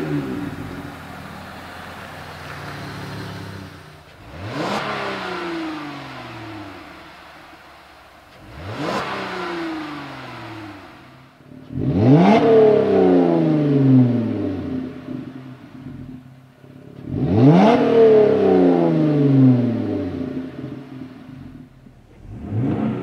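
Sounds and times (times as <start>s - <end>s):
engine revving through exhaust: 0.0s - 23.0s.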